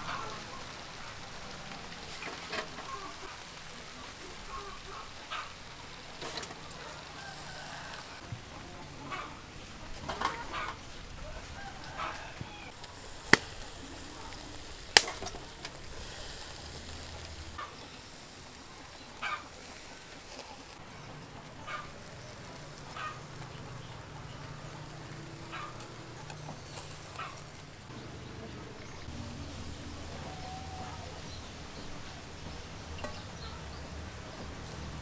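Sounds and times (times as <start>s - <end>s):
squid sizzling on grill: 0.0s - 35.0s.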